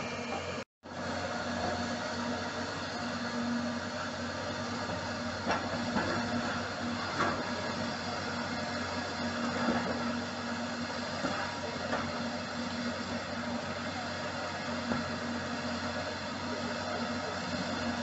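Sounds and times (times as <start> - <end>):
demolition excavator running: 0.0 - 18.0.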